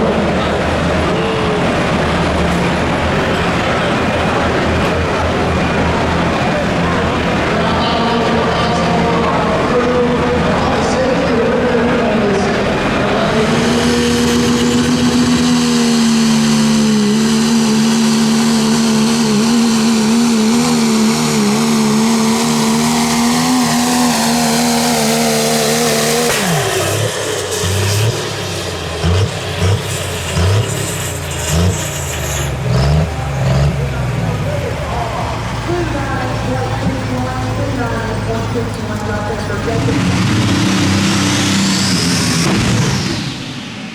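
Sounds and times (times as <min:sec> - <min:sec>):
engine running flat out: 0:00.0 - 0:43.9.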